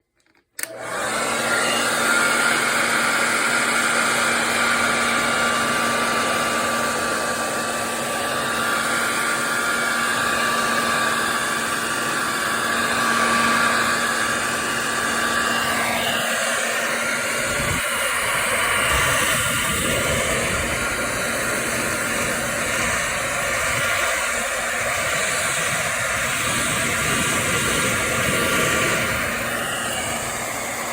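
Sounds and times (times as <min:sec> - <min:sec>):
hair dryer blowing: 0:00.6 - 0:30.9.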